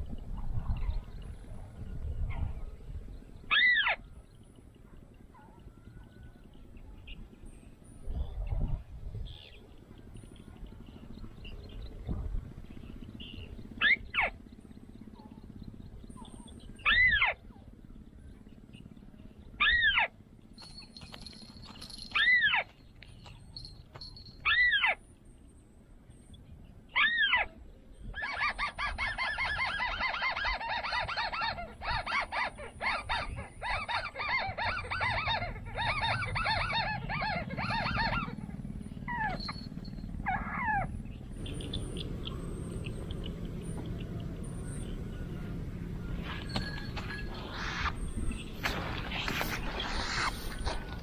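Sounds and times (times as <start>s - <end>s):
bird calls and chattering: 0.0s - 51.0s.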